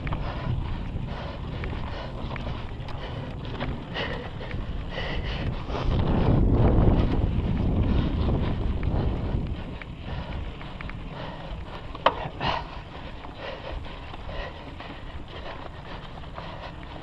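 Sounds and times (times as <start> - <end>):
bike rattles and clicks: 0.0 - 17.0
wind on microphone: 0.0 - 17.0.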